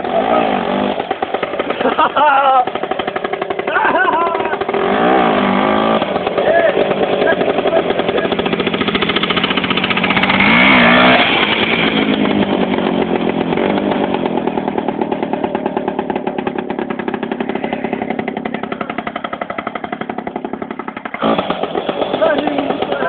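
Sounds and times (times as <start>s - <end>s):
motorcycle engine passing: 0.0s - 23.0s.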